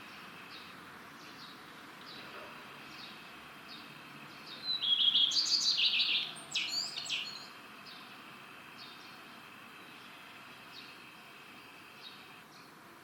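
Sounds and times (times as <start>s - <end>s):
bird singing: 0.0s - 12.8s.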